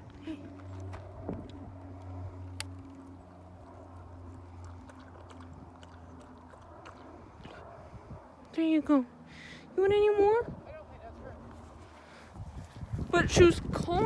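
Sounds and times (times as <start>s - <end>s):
distant engine hum: 0.0s - 14.0s.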